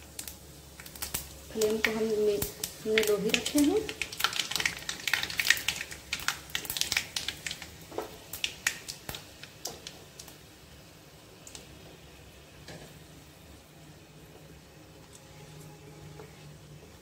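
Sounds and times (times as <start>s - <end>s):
spices crackling in hot oil: 0.0s - 17.0s.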